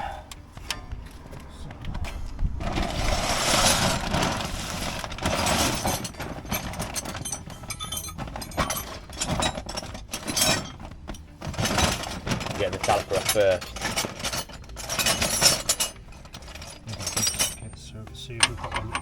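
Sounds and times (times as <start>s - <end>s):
metal tools clinking in toolbox: 0.6s - 19.0s.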